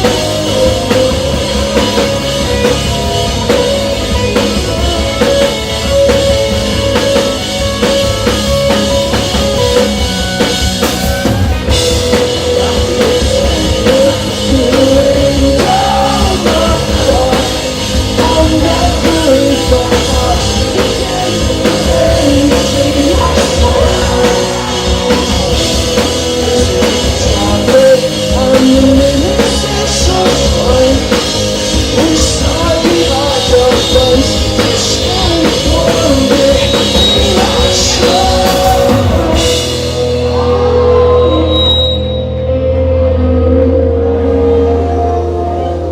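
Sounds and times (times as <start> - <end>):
drum kit: 0.0 - 42.2
live rock band playing: 0.0 - 45.9.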